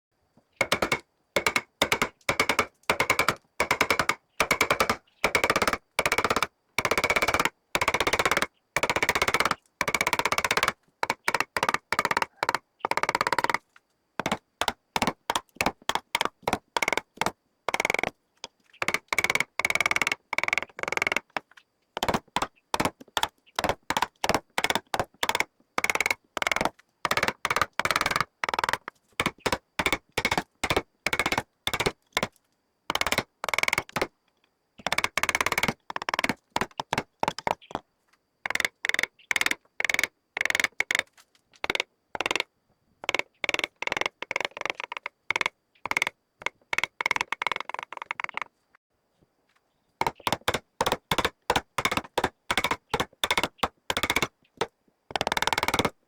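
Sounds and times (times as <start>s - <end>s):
rapid taps on wood: 0.6s - 13.6s, 14.2s - 34.1s, 34.8s - 37.8s, 38.5s - 48.5s, 50.0s - 56.0s.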